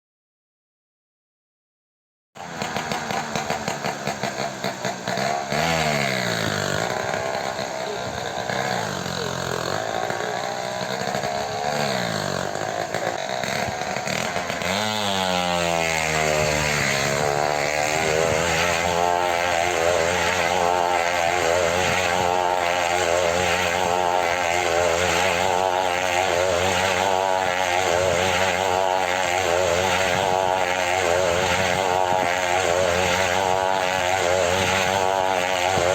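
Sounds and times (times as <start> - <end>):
small two-stroke engine revving: 2.4 - 35.9.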